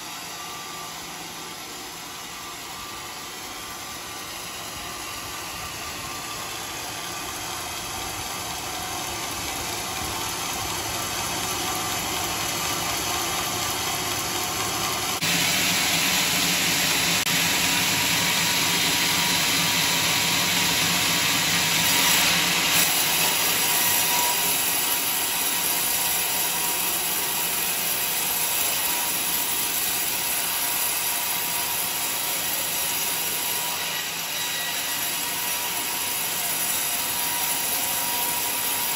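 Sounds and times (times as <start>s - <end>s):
bandsaw cutting a log: 0.0s - 38.9s.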